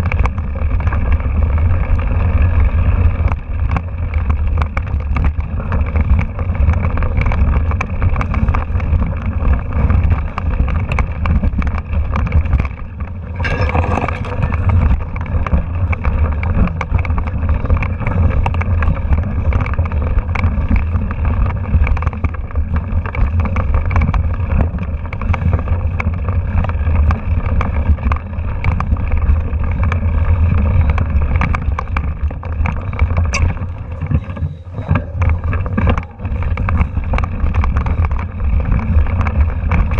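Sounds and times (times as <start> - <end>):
bike clicks and rattles: 0.0 - 39.9
wind and bike frame rumble: 0.0 - 39.9.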